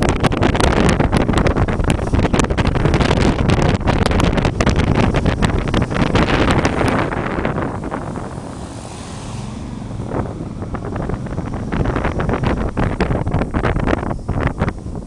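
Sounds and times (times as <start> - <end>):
motorbike engine: 0.0 - 15.0
passing traffic: 0.0 - 15.0
wind buffeting microphone: 0.0 - 15.0.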